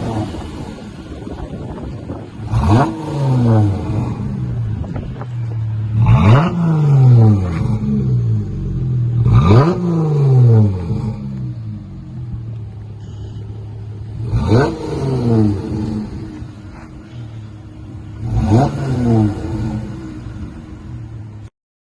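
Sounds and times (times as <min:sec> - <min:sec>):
car exhaust idling and revving: 0:00.0 - 0:21.5.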